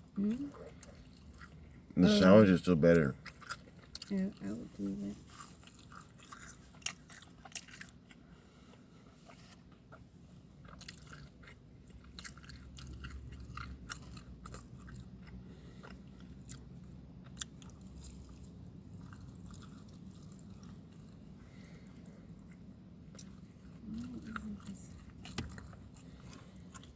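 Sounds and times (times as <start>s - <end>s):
person chewing food: 0.0s - 4.1s, 4.7s - 26.9s
steady low hum: 0.0s - 26.9s.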